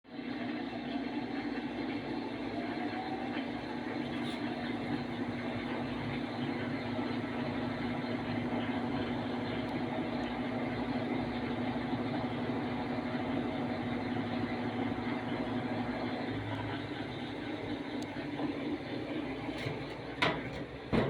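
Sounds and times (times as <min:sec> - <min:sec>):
washing machine humming: 0:00.1 - 0:21.0.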